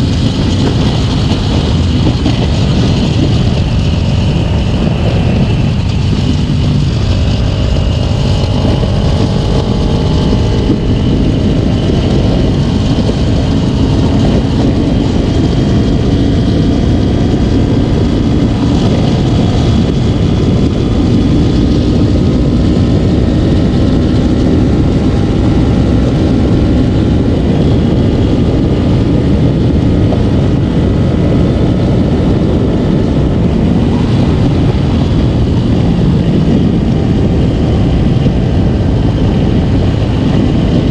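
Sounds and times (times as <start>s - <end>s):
motorcycle engine revving: 0.0s - 40.9s
wind rumble on microphone: 0.0s - 40.9s.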